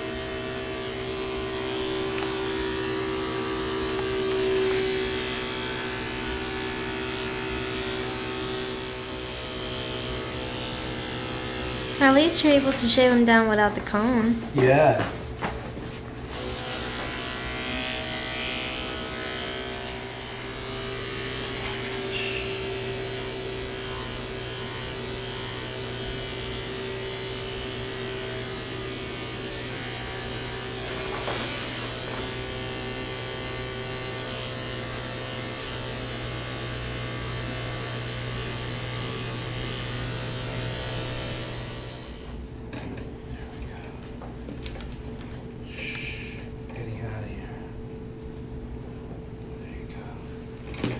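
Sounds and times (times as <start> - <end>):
electric clippers humming: 0.0 - 47.3, 50.0 - 50.9.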